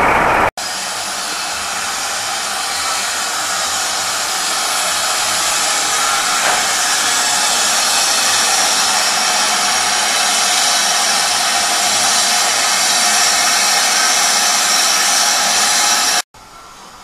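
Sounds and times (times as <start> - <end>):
steam locomotive hissing steam: 0.0 - 17.0.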